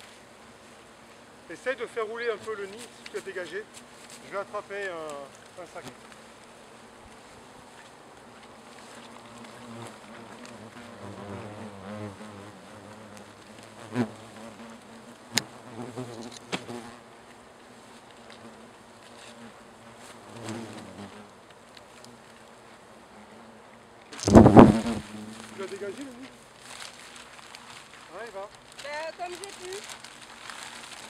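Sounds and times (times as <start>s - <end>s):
hornets buzzing: 0.0s - 17.5s, 18.2s - 31.0s.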